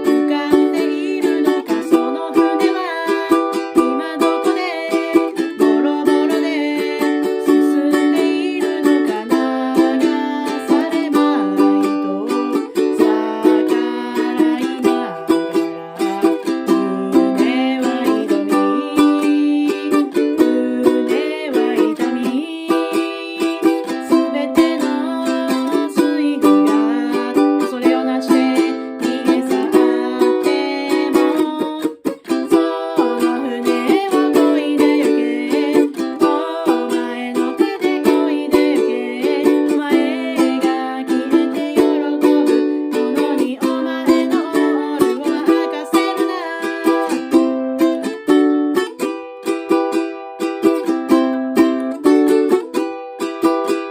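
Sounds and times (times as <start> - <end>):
woman singing: 0.0 - 49.1
ukulele strumming: 0.0 - 53.9.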